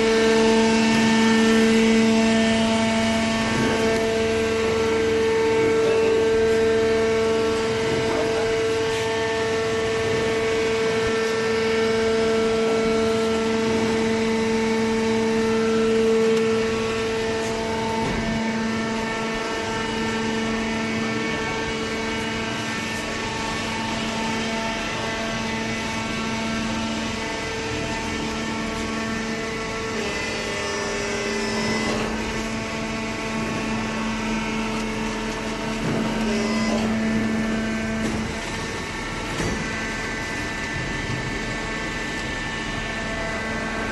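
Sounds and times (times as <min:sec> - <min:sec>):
hydraulic baler motor humming: 0:00.0 - 0:43.9.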